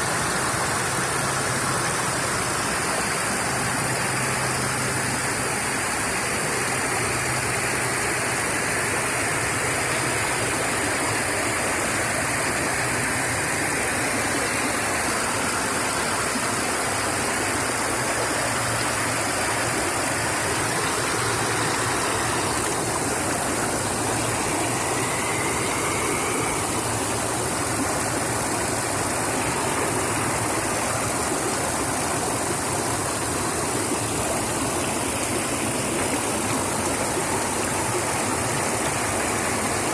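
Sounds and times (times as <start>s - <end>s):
creek water rushing over stones: 0.0s - 39.9s.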